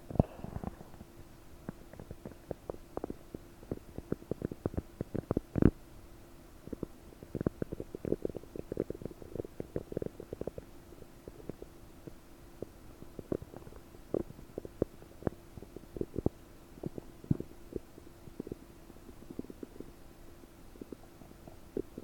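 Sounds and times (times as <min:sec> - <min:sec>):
stomach gurgling: 0:00.1 - 0:05.8, 0:06.6 - 0:20.1, 0:20.7 - 0:22.0.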